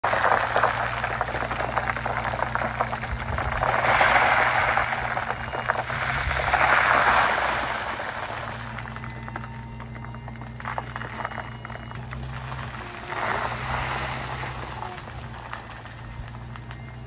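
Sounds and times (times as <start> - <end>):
truck engine low hum: 0.0 - 17.0.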